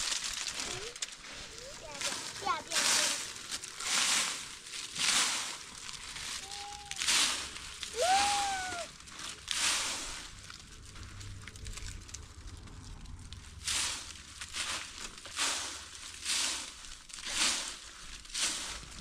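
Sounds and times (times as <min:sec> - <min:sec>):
rough scraping strokes: 0:00.0 - 0:11.6, 0:13.5 - 0:19.0.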